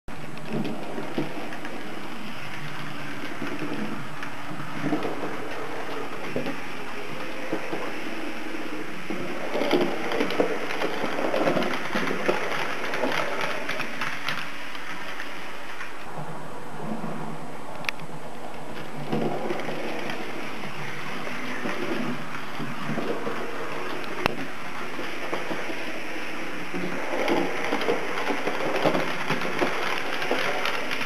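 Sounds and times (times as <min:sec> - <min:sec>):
model trains clattering on track: 0:00.2 - 0:16.0, 0:18.7 - 0:31.0.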